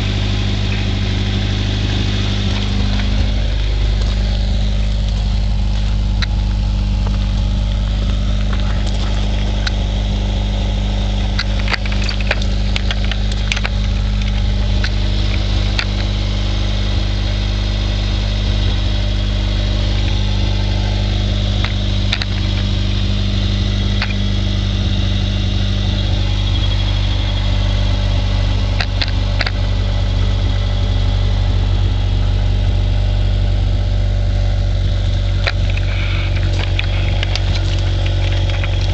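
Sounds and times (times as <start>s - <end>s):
car engine idling: 0.0s - 38.9s
deep exhaust drone: 0.0s - 38.9s.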